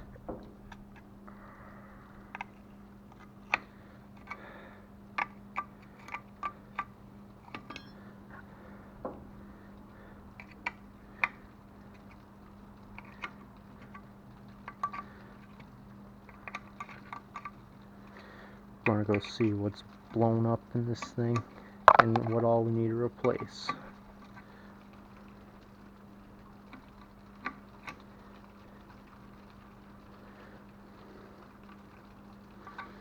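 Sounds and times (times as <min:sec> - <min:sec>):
steady low hum: 0:00.0 - 0:27.1.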